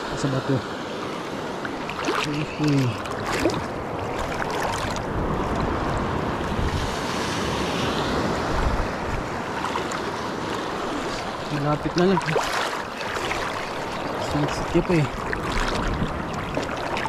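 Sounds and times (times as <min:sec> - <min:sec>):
sea waves washing on shore: 0:00.0 - 0:17.0
wind buffeting microphone: 0:01.8 - 0:17.0.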